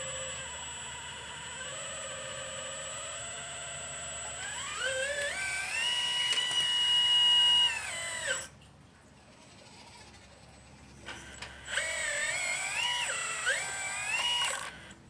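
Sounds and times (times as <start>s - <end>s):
electric motor whine: 0.0s - 8.5s, 11.0s - 15.0s.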